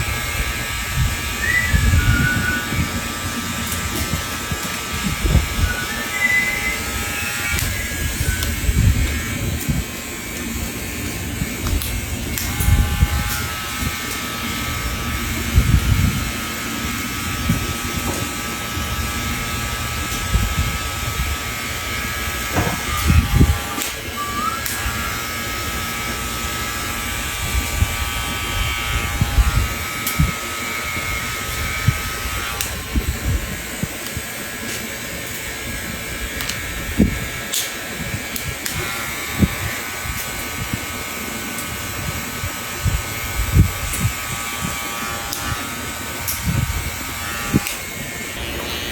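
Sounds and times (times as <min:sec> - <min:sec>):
electric hair clippers buzzing: 0:00.0 - 0:48.9
steady whine: 0:00.0 - 0:48.9.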